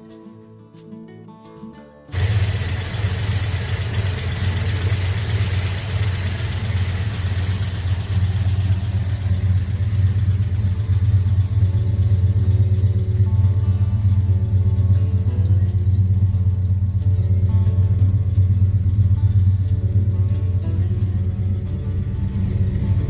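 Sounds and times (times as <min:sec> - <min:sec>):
car engine idling: 0:02.1 - 0:23.0.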